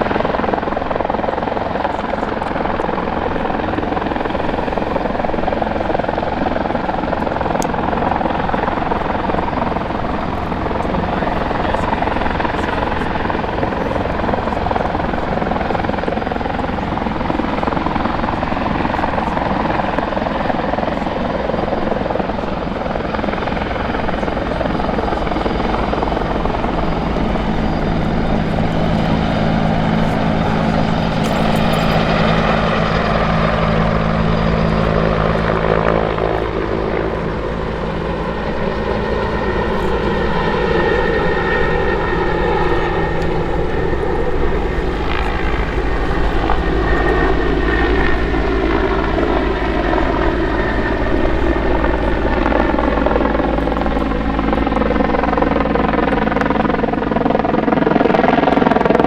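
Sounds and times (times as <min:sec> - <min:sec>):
steady low hum: 0:00.0 - 0:57.3
helicopter rotor and turbine: 0:00.0 - 0:59.0.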